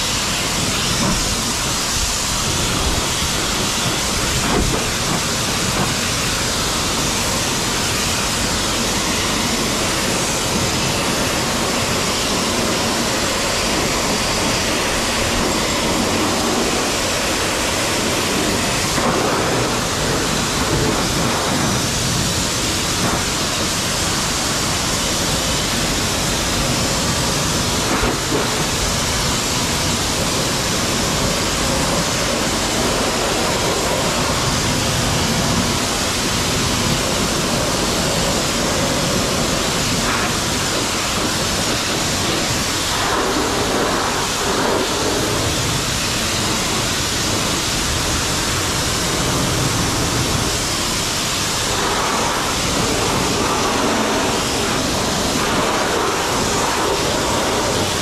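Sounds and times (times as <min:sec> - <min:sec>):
high-pressure water spraying: 0:00.0 - 0:58.0.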